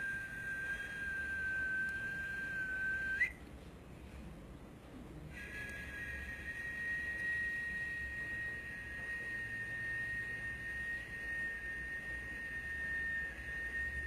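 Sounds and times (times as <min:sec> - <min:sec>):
high-pitched pure tone: 0:00.0 - 0:03.4, 0:05.3 - 0:14.0
low hum: 0:00.0 - 0:14.0.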